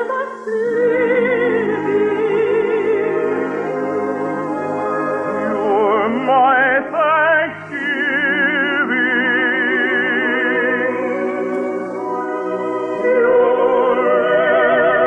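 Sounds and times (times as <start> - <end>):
operatic singing: 0.0 - 15.0
orchestra playing: 0.4 - 9.9, 10.6 - 14.9.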